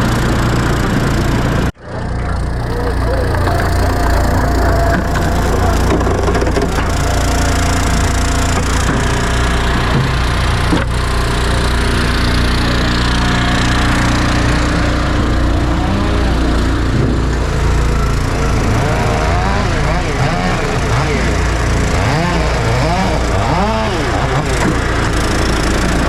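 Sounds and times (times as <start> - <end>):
log splitter engines droning: 0.0 - 26.0.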